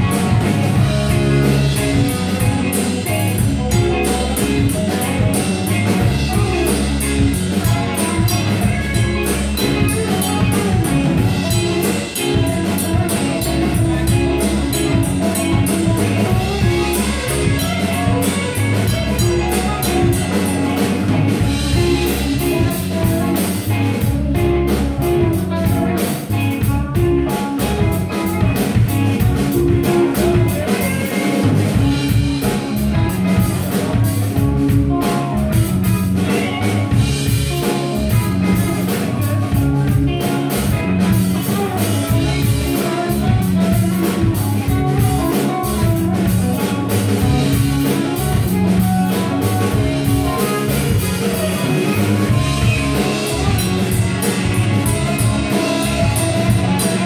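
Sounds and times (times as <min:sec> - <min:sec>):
drum kit beat: 0:00.0 - 0:57.0
electric bass: 0:00.0 - 0:57.0
electric guitars: 0:00.0 - 0:57.0.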